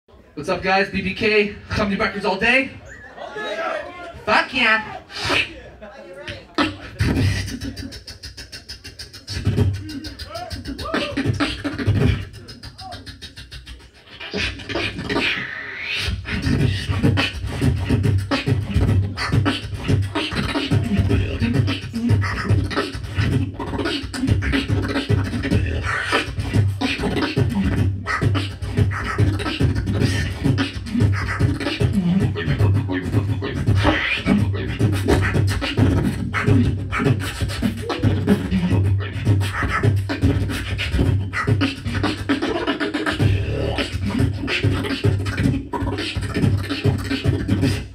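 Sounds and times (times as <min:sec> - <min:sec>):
beatboxing mouth percussion: 0:05.1 - 0:05.6, 0:06.3 - 0:47.9
held low bass mouth sound: 0:06.5 - 0:47.9.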